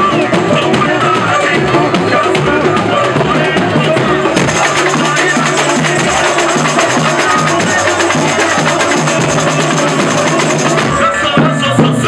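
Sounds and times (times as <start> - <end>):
samba drum and percussion beat: 0.0 - 12.0.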